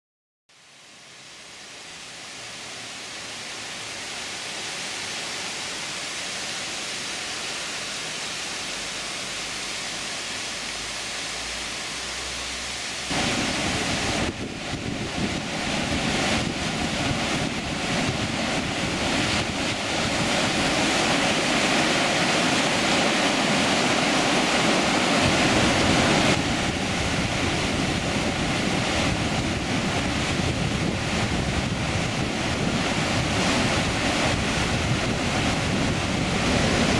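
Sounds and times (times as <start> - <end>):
waterfall rushing and crashing: 0.5 - 36.9.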